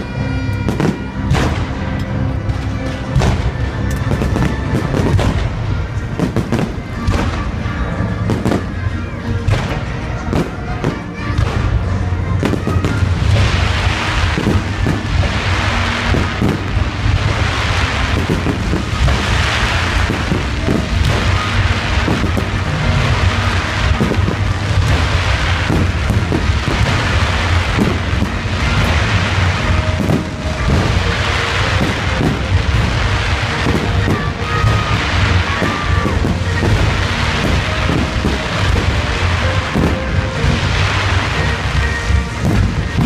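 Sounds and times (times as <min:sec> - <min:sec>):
fireworks bangs: 0:00.0 - 0:43.0
fireworks crackling hiss: 0:00.0 - 0:43.0.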